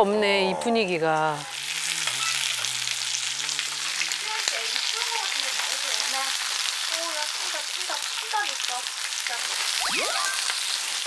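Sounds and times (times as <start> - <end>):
meat sizzling on grill: 0.9 - 11.0.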